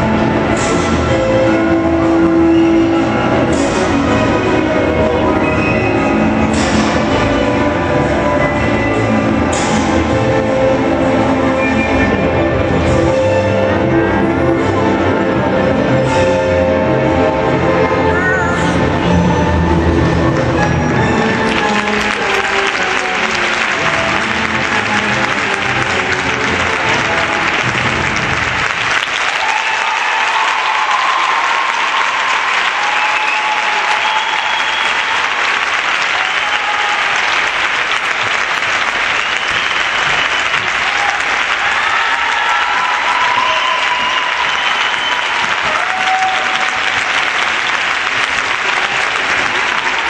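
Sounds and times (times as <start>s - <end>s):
crowd applauding and cheering: 0.0s - 50.0s.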